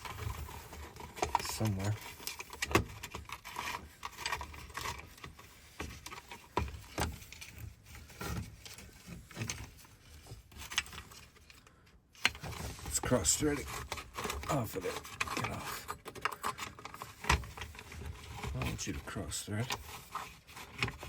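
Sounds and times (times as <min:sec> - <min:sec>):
small metal parts clicking and rattling: 0:00.0 - 0:21.0.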